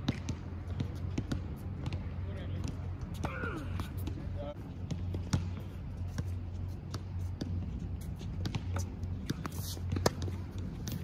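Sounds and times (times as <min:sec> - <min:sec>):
footsteps on hard court: 0:00.0 - 0:11.0
tennis ball bouncing: 0:00.0 - 0:11.0.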